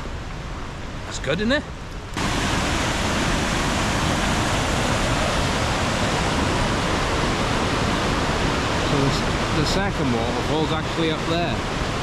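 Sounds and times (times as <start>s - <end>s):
waterfall rushing: 2.2s - 12.0s.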